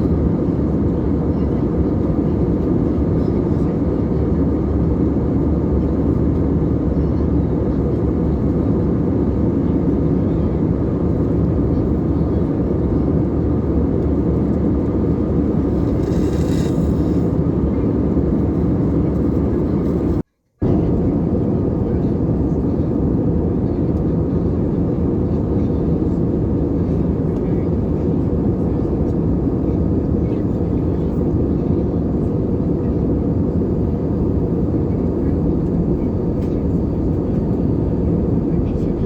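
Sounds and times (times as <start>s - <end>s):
aircraft cabin engine roar: 0.0s - 39.0s.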